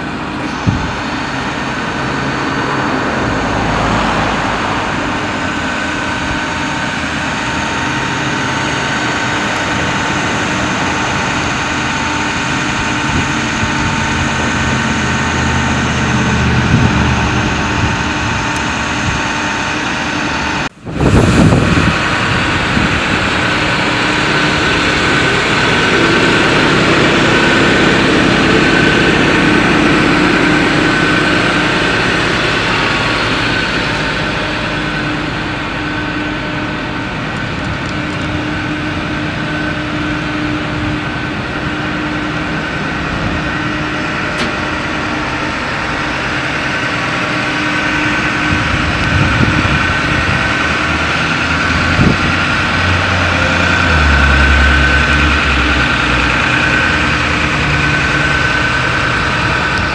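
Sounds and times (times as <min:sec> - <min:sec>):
diesel engine idling: 0:00.0 - 0:59.9
hydraulic system high whine: 0:00.0 - 0:59.9.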